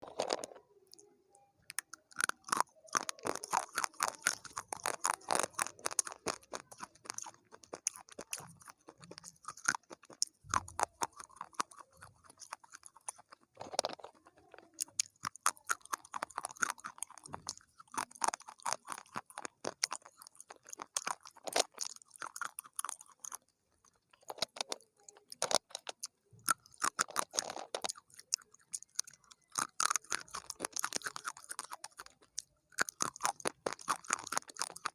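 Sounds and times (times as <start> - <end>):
chewing crunchy food: 0.0 - 34.9.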